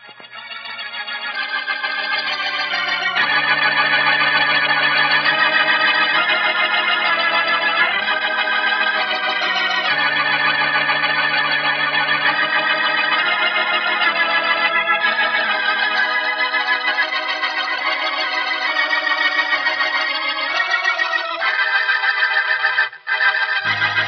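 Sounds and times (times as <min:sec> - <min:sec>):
organ chords with vibrato: 0:00.0 - 0:24.0.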